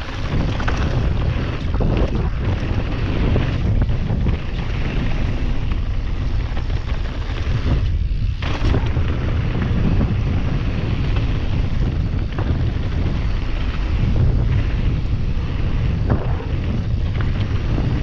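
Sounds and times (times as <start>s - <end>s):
bike tyres rumbling on dirt trail: 0.0s - 18.0s
wind buffeting microphone: 0.0s - 18.0s.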